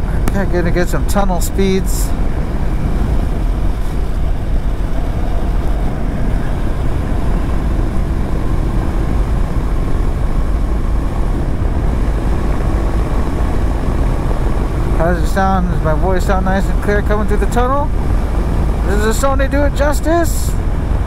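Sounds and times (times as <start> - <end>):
motorcycle riding rumble: 0.0 - 21.0.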